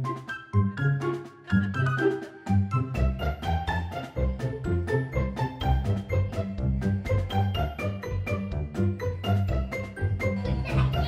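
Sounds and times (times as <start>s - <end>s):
playful music with steady beat: 0.0s - 11.0s.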